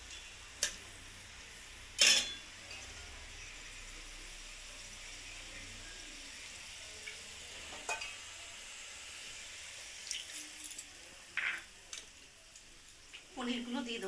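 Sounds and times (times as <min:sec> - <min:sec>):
sauce sizzling in a pan: 0:00.0 - 0:14.0.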